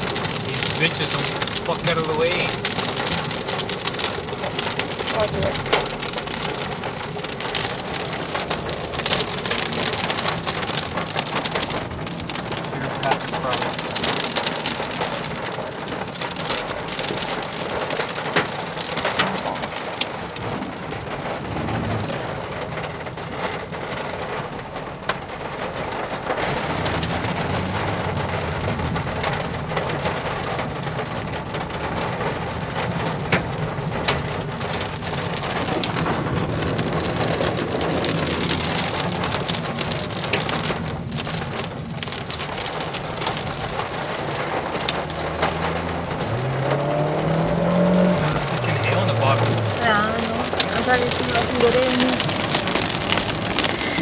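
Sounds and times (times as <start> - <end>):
engine and tyre rumble: 0.0 - 54.0
rain and hail on car roof: 0.0 - 54.0.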